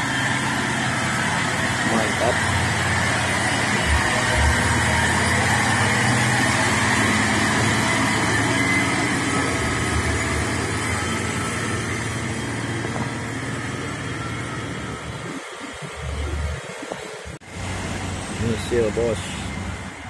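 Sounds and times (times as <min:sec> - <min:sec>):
diesel truck engine passing: 0:00.0 - 0:20.0
tyre and road noise: 0:00.0 - 0:20.0.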